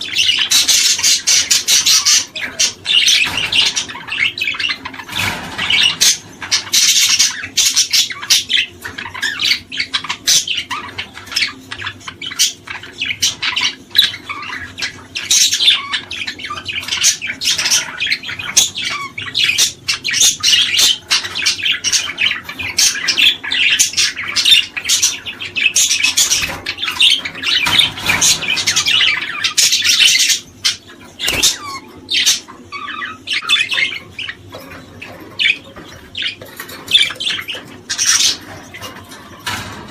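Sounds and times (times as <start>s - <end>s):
flock of small birds chirping: 0.0s - 39.9s.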